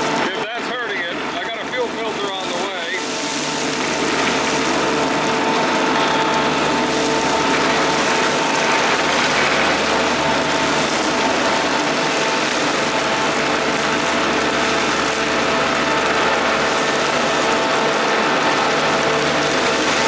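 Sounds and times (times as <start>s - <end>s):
diesel engine running: 0.0s - 20.0s
steady whine: 0.0s - 20.0s.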